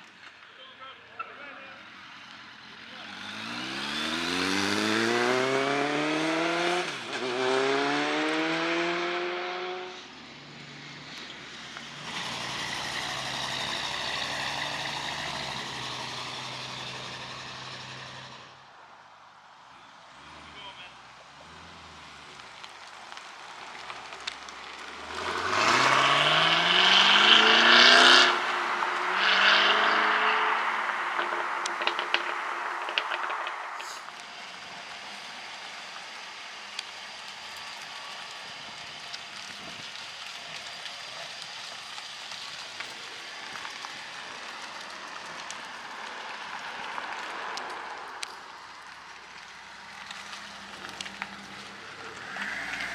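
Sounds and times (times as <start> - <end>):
car engine accelerating hard: 1.8 - 10.1, 11.7 - 18.6, 19.9 - 52.9.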